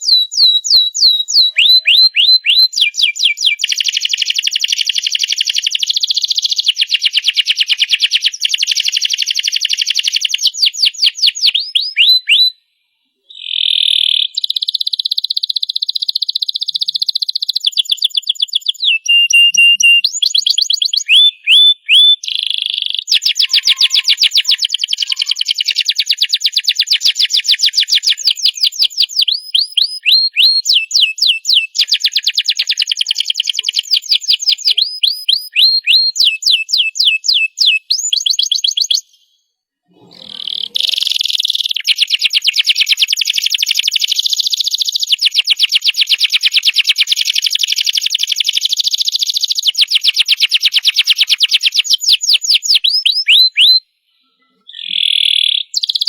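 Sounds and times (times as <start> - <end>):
canary singing trills: 0.0 - 12.6, 13.3 - 39.3, 40.0 - 56.0.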